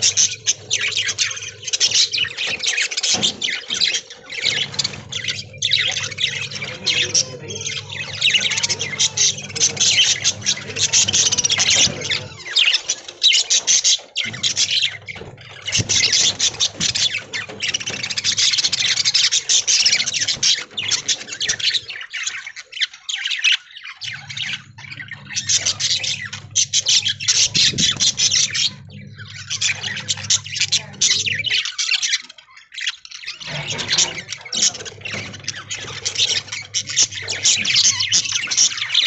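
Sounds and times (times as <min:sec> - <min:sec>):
budgerigars chattering and squawking: 0:00.0 - 0:39.0.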